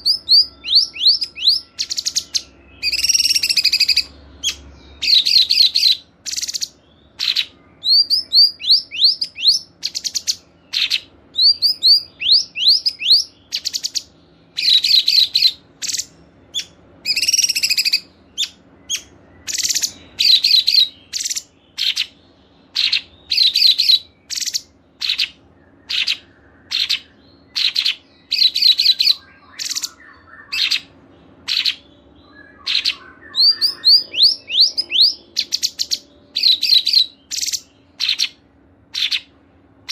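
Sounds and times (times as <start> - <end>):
caged songbirds chirping and trilling: 0.0 - 39.9.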